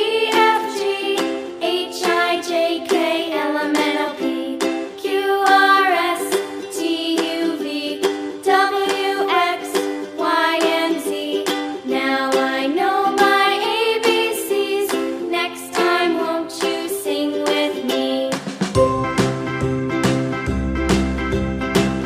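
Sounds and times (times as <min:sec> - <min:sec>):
plucked-string tune: 0:00.0 - 0:22.0.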